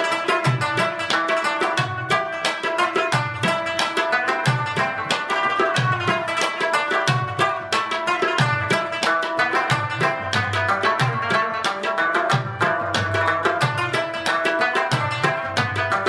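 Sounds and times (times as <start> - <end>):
plucked string instrumental music: 0.0 - 16.0
tabla beat: 0.0 - 16.0.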